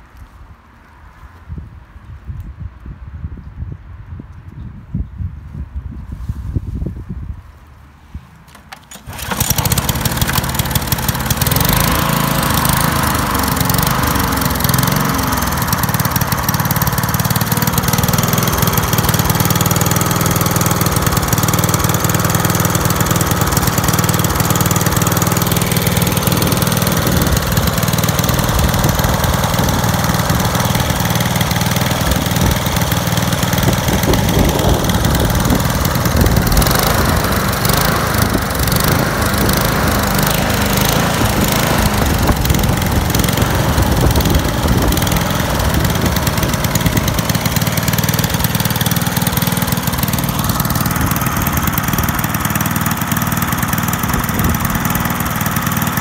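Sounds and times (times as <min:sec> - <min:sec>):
lawn mower engine running: 0:08.3 - 0:56.0.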